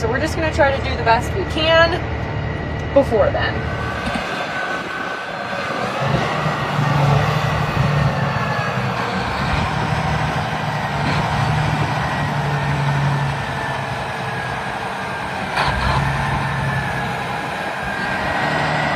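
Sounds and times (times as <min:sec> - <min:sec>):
heavy machinery diesel engine running: 0:00.0 - 0:18.9.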